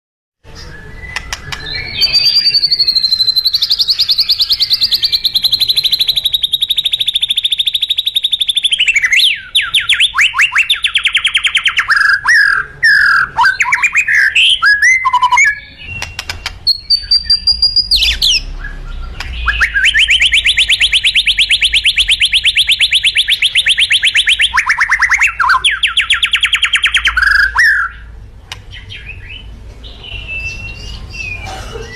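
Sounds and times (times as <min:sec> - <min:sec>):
bird singing rapid trills: 0:00.5 - 0:31.6.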